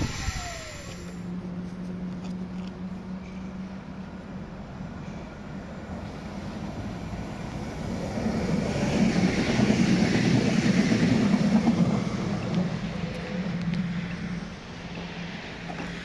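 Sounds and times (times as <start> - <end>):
electric train passing: 2.8 - 16.0.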